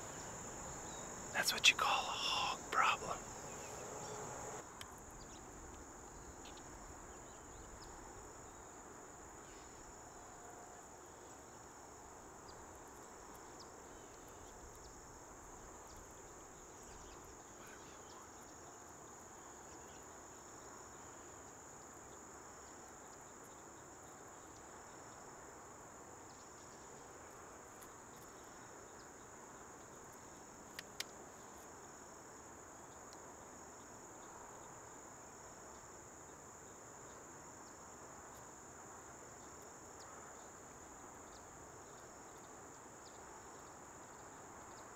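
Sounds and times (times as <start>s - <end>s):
faint outdoor air hiss: 0.0s - 44.9s
high-pitched insect chorus: 0.0s - 44.9s.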